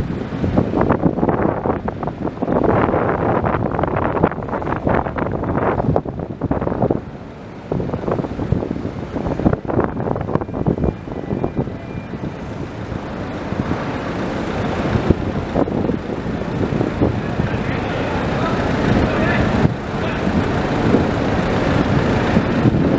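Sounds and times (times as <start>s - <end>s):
heavy machinery rumble: 0.0s - 22.9s.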